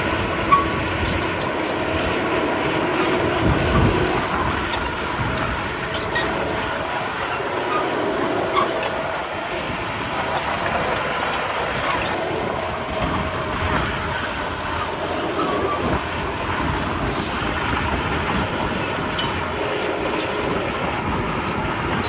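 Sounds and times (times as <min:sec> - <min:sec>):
bulldozer diesel engine running: 0:00.0 - 0:22.0
steel tracks clanking and squealing: 0:00.0 - 0:22.0.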